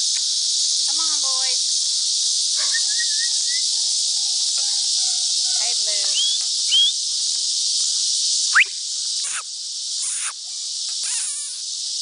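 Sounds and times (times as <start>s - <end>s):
high insect chorus: 0.0s - 12.0s.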